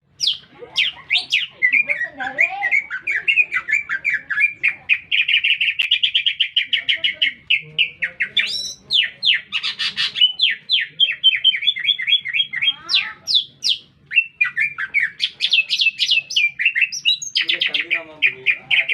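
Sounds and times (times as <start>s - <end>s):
bird singing chirps and trills: 0.1s - 18.9s.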